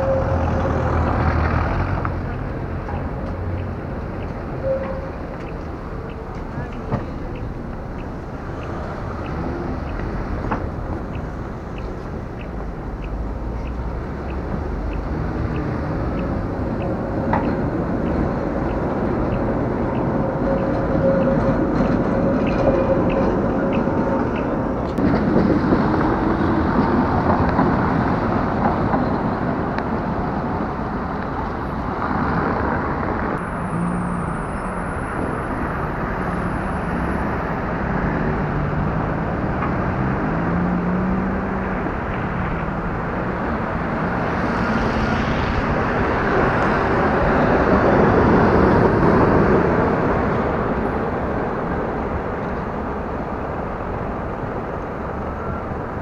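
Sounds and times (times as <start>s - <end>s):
cars driving past: 0.0s - 56.0s.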